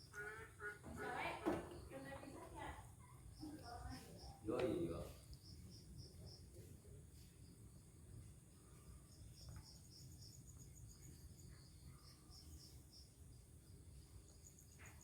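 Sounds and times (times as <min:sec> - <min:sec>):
faint insect chirping: 0:00.0 - 0:15.0.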